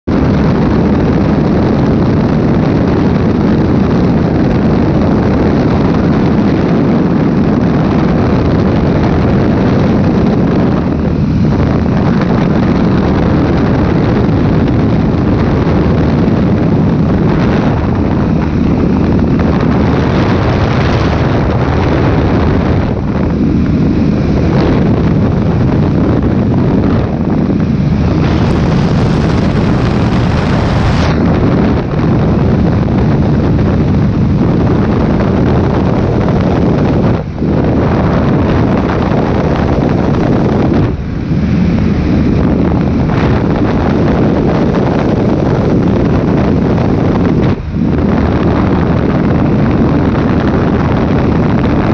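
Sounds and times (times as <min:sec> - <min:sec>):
airplane engine droning: 0:00.0 - 0:51.9
wind rushing: 0:00.0 - 0:51.9.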